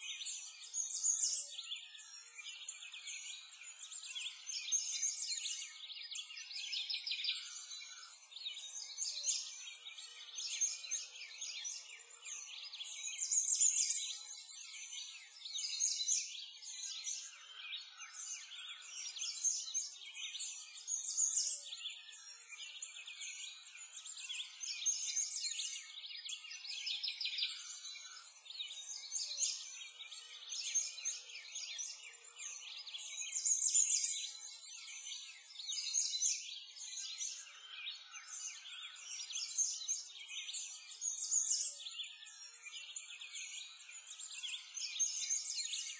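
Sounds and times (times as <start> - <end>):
songbirds chirping and twittering: 0.0 - 45.9.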